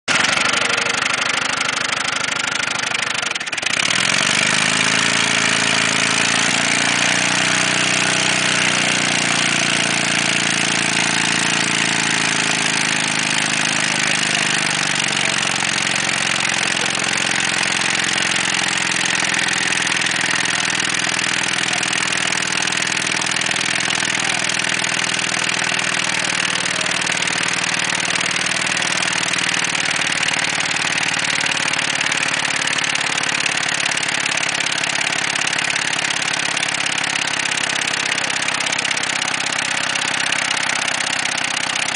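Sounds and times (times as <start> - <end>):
engine rod knocking: 0.1 - 41.9.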